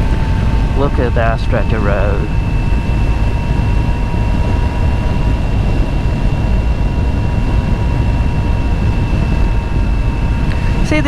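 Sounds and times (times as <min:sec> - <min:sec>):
steady high whine: 0:00.0 - 0:11.0
wind buffeting on microphone: 0:00.0 - 0:11.0.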